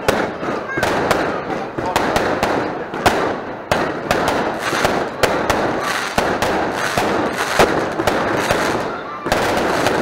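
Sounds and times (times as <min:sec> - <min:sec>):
fireworks crackle: 0:00.0 - 0:10.0
fireworks cracks and bangs: 0:00.0 - 0:10.0.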